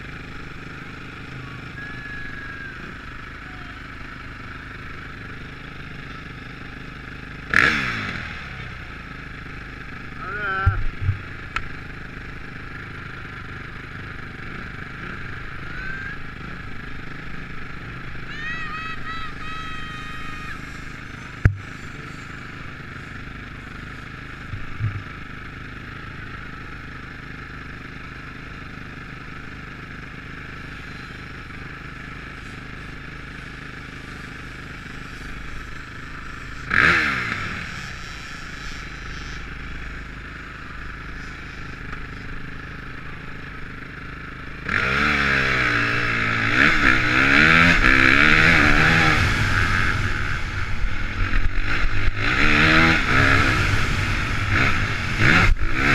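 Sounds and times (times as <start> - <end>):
motorbike revving and pulling away: 0.0 - 18.5, 19.9 - 55.9
motocross bike engine idling: 0.0 - 55.9.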